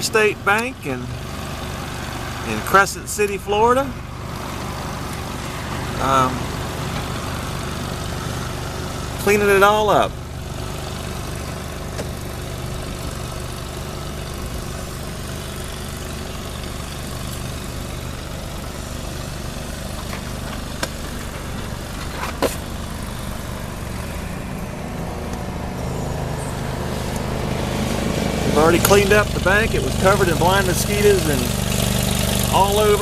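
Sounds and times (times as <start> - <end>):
pressure washer engine running: 0.0 - 33.0.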